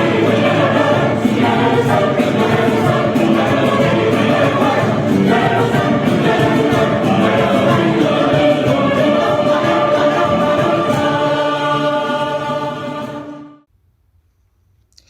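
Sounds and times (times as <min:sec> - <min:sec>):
choir singing in parts: 0:00.0 - 0:13.7.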